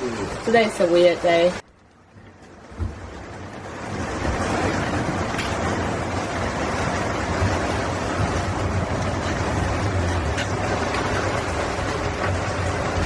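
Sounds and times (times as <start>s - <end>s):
rain: 0.0s - 13.0s
storm wind: 0.0s - 13.0s
wind buffeting microphone: 1.5s - 13.0s.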